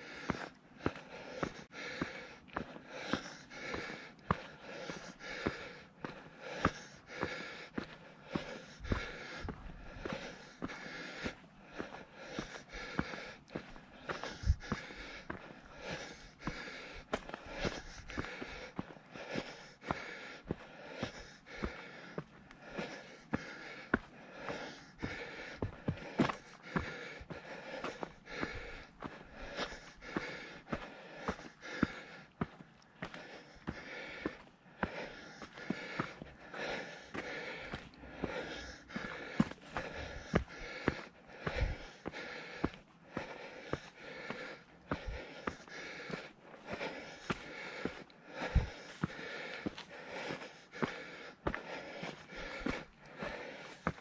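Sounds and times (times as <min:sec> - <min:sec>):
loud rhythmic breathing: 0:00.0 - 0:54.0
footsteps on rock: 0:00.1 - 0:54.0.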